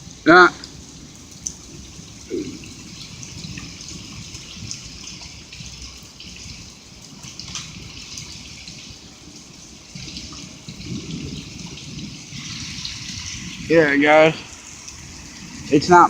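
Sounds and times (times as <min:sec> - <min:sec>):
hail ticking: 0:00.0 - 0:16.0
rain pouring and splashing: 0:00.0 - 0:16.0.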